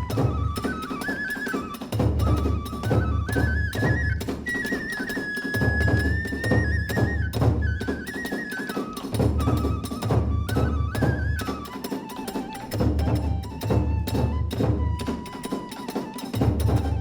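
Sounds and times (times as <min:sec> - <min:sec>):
bamboo flute melody: 0:00.0 - 0:17.0.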